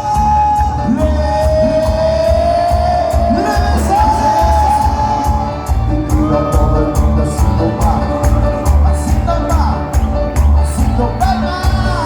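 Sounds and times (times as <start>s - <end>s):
live cumbia band over loudspeakers: 0.0s - 12.0s
pulsing bass beat: 0.0s - 12.0s.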